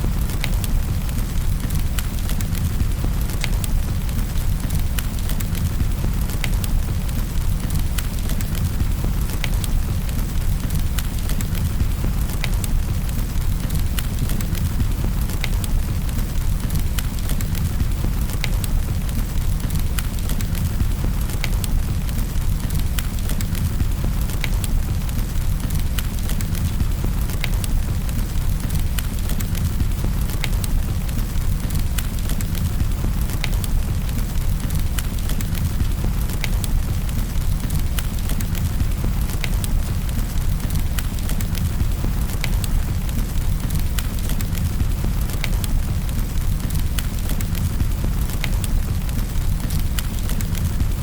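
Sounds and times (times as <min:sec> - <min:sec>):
rain rushing: 0:00.0 - 0:51.0
wood fire crackling and popping: 0:00.0 - 0:51.0.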